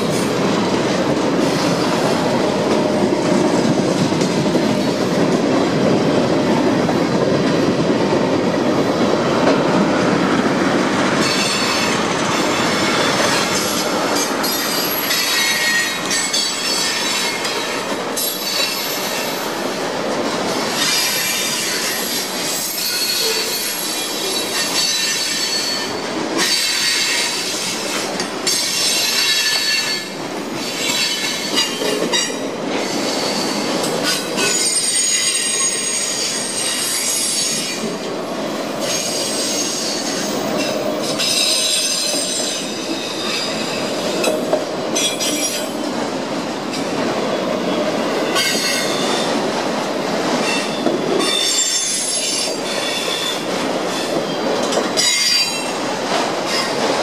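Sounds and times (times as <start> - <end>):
train wheels rumbling over rail joints: 0.0 - 57.0.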